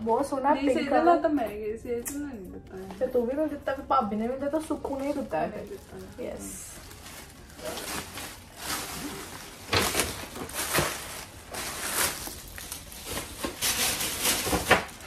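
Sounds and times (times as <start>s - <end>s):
plastic bag crinkling: 2.8s - 15.0s.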